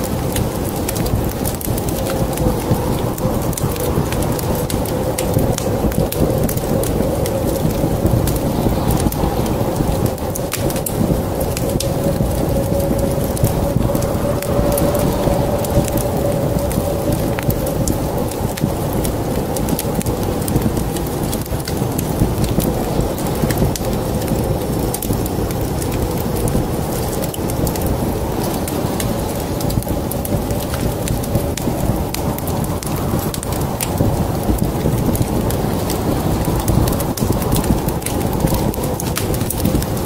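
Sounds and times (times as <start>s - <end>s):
low rushing noise: 0.0s - 40.0s
wood fire crackling: 0.0s - 40.0s.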